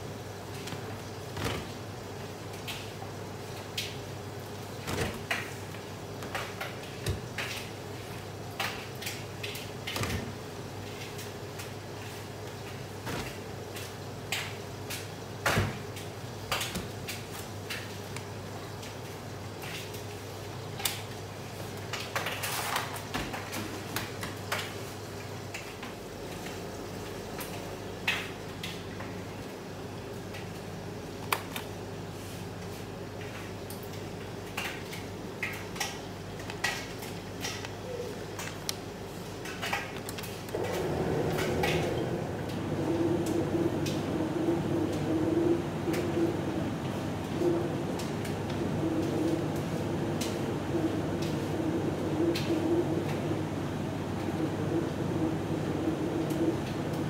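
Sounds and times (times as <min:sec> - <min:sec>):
laundry machine motor hum: 0:00.0 - 0:57.0.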